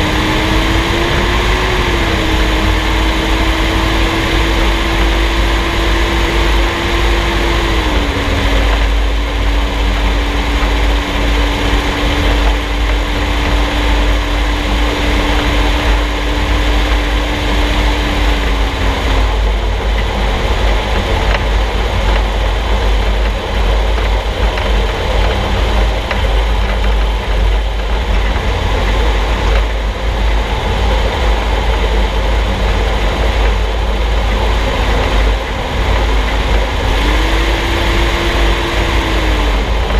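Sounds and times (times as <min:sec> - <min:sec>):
steady hum: 0:00.0 - 0:39.9
vehicle road noise rumble: 0:00.0 - 0:39.9.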